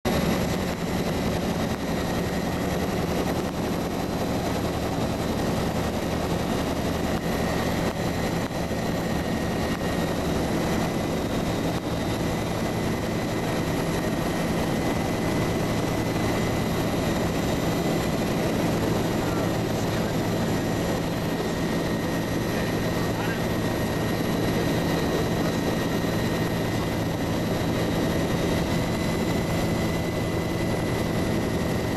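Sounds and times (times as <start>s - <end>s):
helicopter drone: 0.1s - 31.9s.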